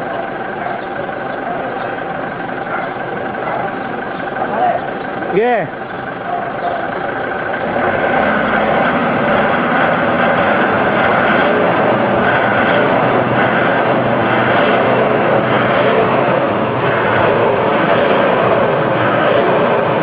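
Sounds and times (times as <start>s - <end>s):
vehicle engine revving loudly: 0.8s - 20.0s.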